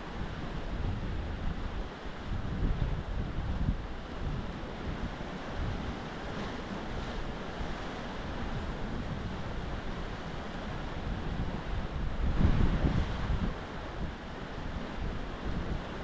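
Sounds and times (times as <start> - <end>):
wind buffeting microphone: 0.2 - 6.0, 8.5 - 16.0.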